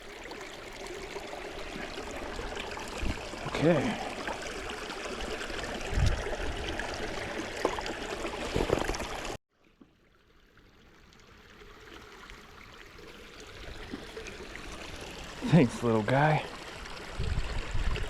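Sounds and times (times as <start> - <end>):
flowing creek water: 0.0 - 18.0.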